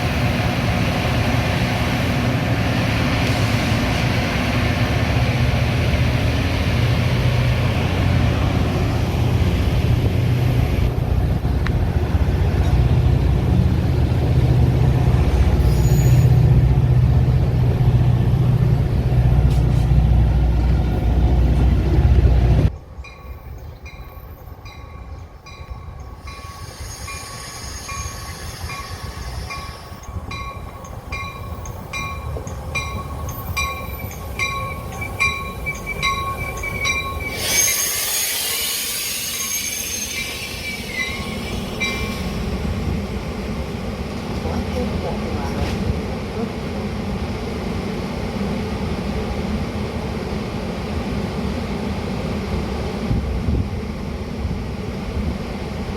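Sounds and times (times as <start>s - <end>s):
train rumbling: 0.0s - 55.9s.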